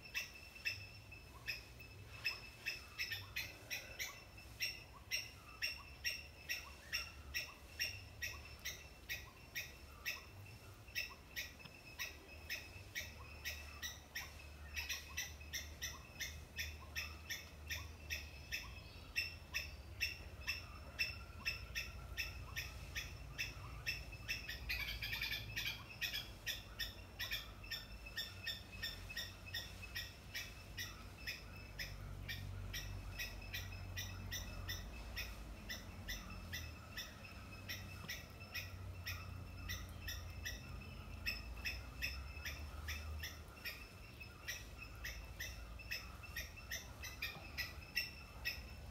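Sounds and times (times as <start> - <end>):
animal chirping call: 0.0 - 48.9.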